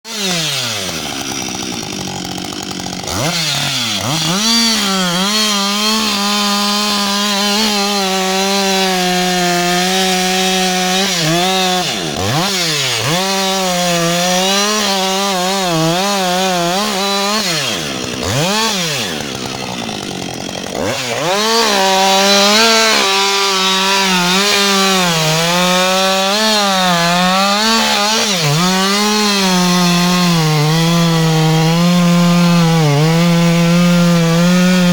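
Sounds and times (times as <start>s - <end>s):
chainsaw cutting tree: 0.1s - 34.9s.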